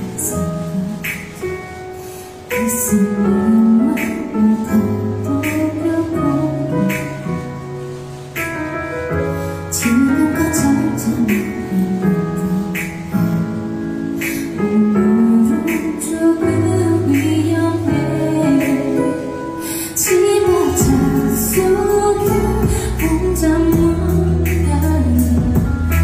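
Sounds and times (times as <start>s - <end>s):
piano accompaniment: 0.0s - 26.0s
woman singing a ballad: 0.0s - 26.0s.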